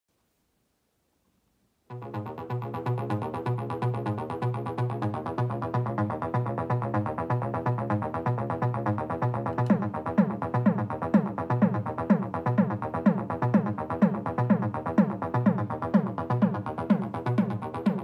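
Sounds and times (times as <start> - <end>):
electronic kick drum: 1.9 - 18.0
synth bass pulsing: 1.9 - 18.0.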